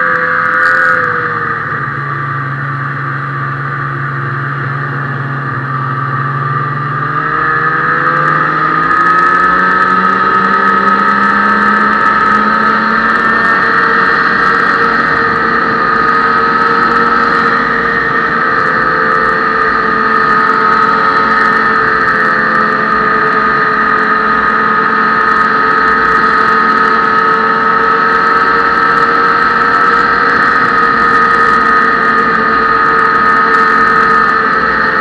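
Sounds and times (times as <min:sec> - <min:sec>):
snowmobile engine running steadily: 0:00.0 - 0:35.0.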